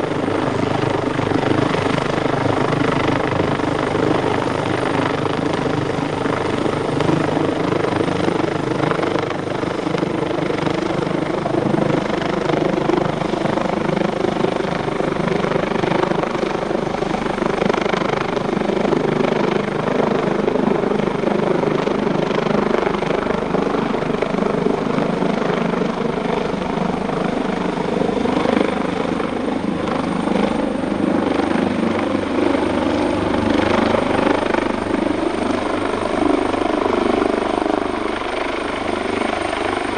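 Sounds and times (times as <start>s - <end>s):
helicopter rotor beating: 0.0s - 39.9s
turbine engine whine: 0.0s - 39.9s.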